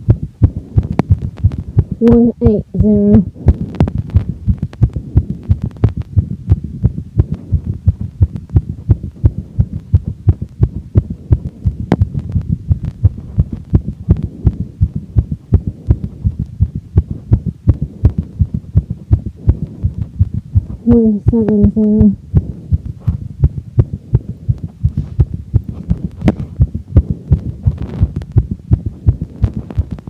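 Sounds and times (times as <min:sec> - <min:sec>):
fast heartbeat through stethoscope: 0:00.0 - 0:30.0.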